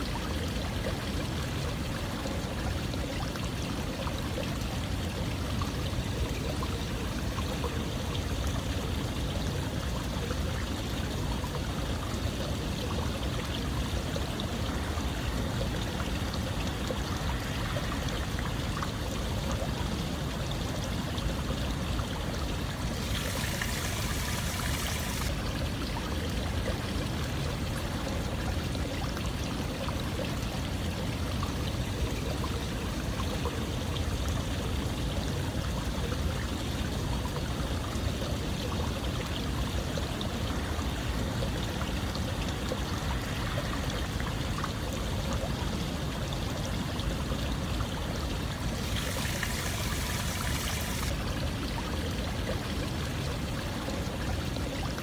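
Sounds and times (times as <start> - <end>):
running water rushing: 0.0 - 34.1, 40.4 - 55.0.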